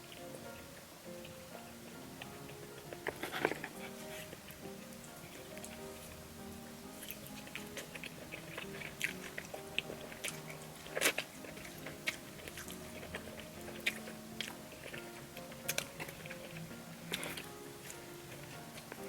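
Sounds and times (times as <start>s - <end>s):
person chewing crunchy pizza: 0.0s - 19.0s.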